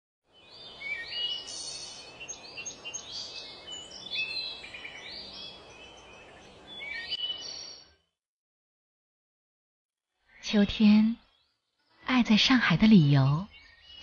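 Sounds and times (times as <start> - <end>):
songbirds chirping and singing: 0.3 - 7.9, 10.3 - 14.0.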